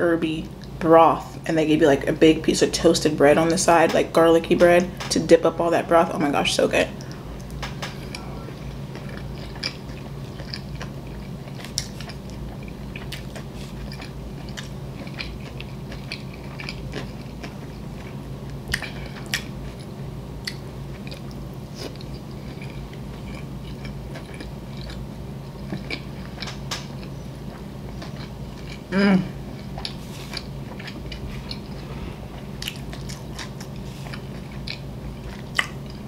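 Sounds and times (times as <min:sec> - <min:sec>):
steady low hum: 0:00.0 - 0:36.0
person chewing with wet smacks: 0:07.0 - 0:36.0.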